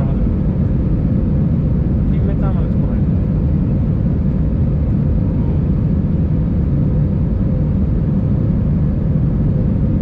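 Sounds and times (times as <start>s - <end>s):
airplane engine rumble in cabin: 0.0s - 10.0s.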